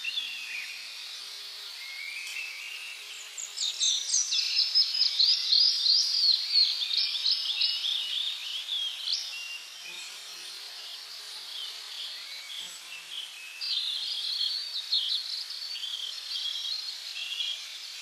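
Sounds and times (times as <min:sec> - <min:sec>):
insect background hiss: 0:00.0 - 0:18.0.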